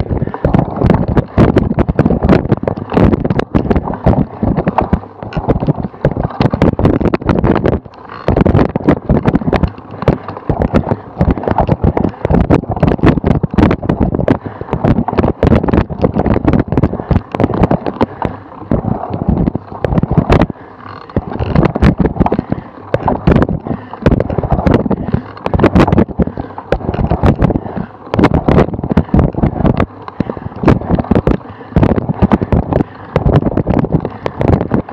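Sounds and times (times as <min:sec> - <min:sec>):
bike rattling over bumpy grass: 0:00.0 - 0:34.9.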